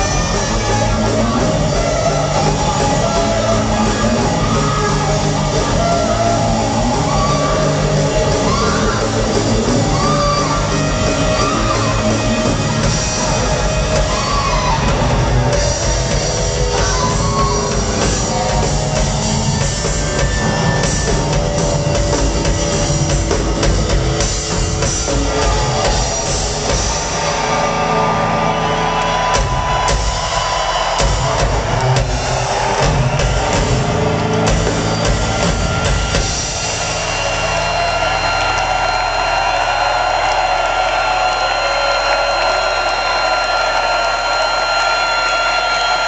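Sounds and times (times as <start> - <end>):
drum kit: 0.0 - 46.0
electric guitars: 0.0 - 46.0.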